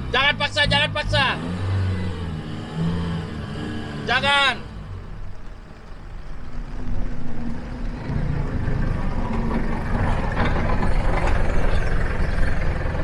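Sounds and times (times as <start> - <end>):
pickup truck engine rumbling: 0.0 - 13.0.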